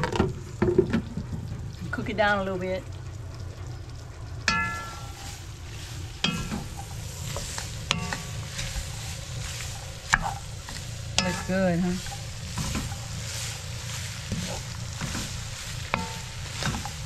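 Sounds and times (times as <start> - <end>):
vegetables sizzling: 0.0 - 17.0.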